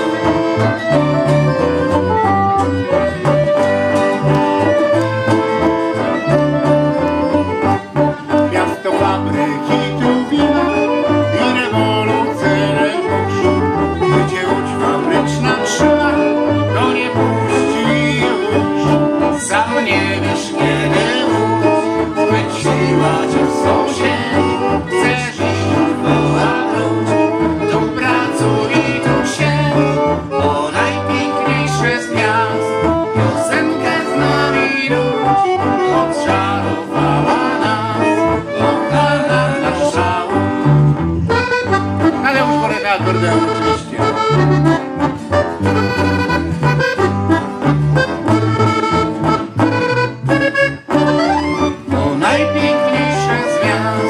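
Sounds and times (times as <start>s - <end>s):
accordion: 0.0s - 54.0s
bass line: 0.0s - 54.0s
clarinet: 0.0s - 54.0s
electric guitar: 0.0s - 54.0s
strummed acoustic guitars: 0.0s - 54.0s.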